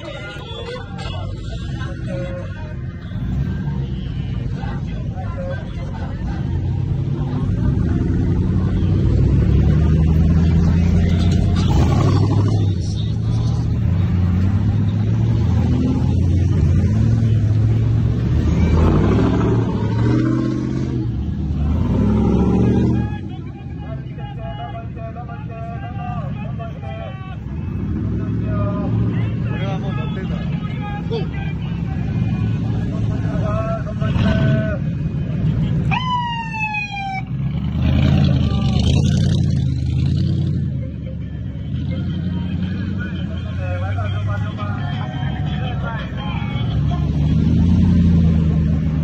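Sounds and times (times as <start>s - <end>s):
truck engines rumbling past: 0.0s - 49.0s.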